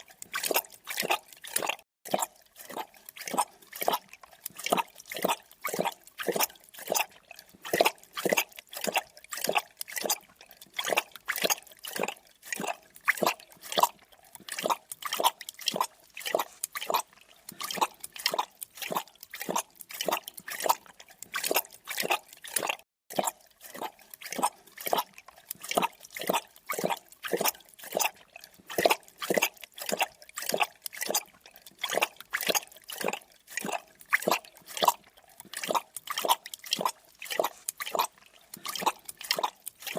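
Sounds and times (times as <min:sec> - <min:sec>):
wet lapping and slurping: 0:00.0 - 0:39.9.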